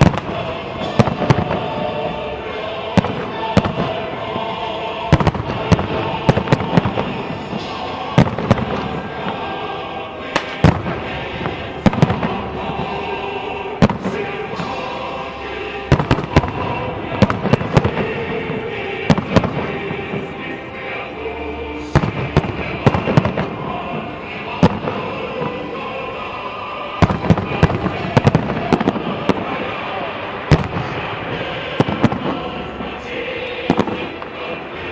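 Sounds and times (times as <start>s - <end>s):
fireworks banging: 0.0s - 20.7s, 21.8s - 34.9s
background music: 0.0s - 34.9s.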